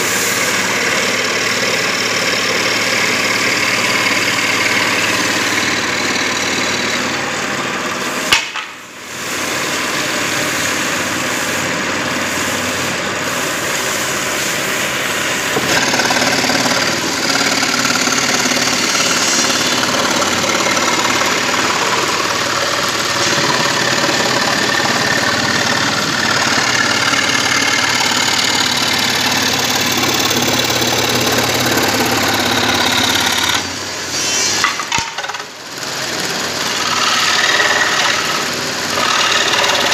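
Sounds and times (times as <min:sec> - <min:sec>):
woodworking machine running: 0:00.0 - 0:39.9.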